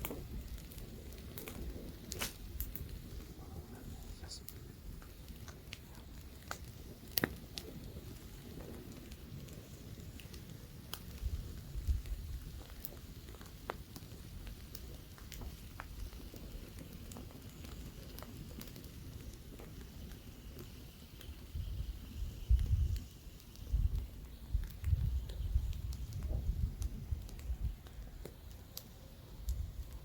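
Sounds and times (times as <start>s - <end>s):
campfire crackling: 0.0s - 30.0s
light wind rumble: 0.0s - 30.0s.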